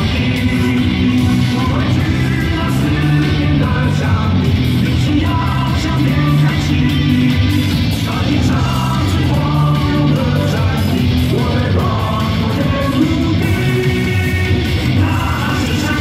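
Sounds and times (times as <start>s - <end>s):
rock song over sound system: 0.0s - 16.0s.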